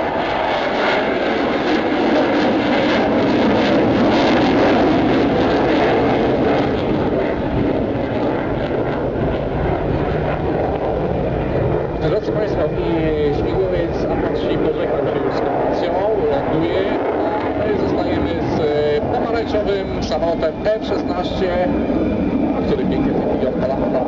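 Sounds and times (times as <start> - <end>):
jet engine rushing: 0.0 - 24.0.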